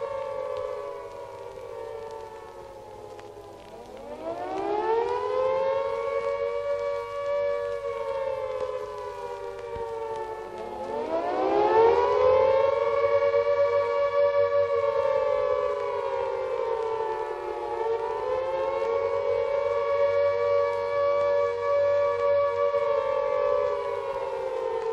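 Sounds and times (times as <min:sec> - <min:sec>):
two-tone siren wailing: 0:00.0 - 0:24.9.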